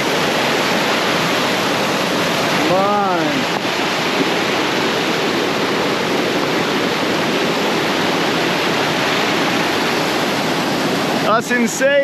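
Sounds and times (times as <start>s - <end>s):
whitewater rushing over rapids: 0.0s - 12.0s.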